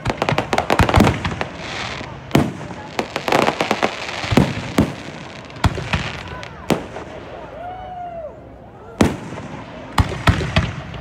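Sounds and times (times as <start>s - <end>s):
fireworks bangs: 0.0s - 7.6s, 9.0s - 11.0s
crackling fireworks stars: 0.0s - 7.7s, 9.0s - 11.0s.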